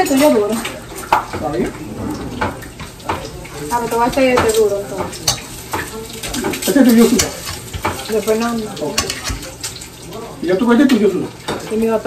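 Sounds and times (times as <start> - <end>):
food sizzling in a pan: 1.9 - 12.0.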